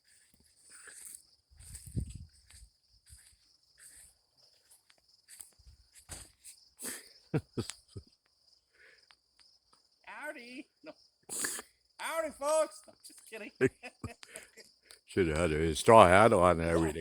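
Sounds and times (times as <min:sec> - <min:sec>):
crickets chirring: 0:00.1 - 0:17.0.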